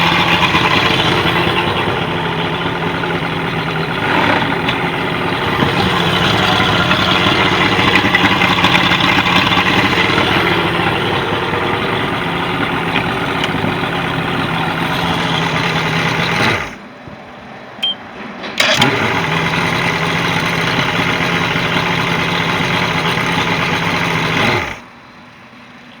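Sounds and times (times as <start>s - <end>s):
outboard motor running: 0.0s - 16.9s, 18.6s - 24.9s.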